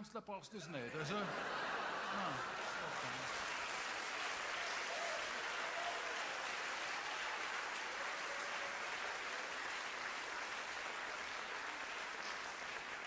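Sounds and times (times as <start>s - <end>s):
audience applauding: 1.0s - 13.0s.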